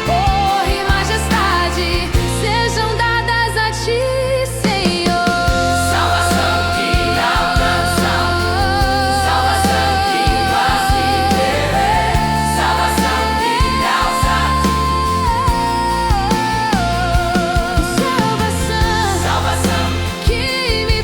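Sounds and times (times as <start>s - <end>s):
bass and drums: 0.0s - 21.0s
choir singing gospel: 0.0s - 21.0s.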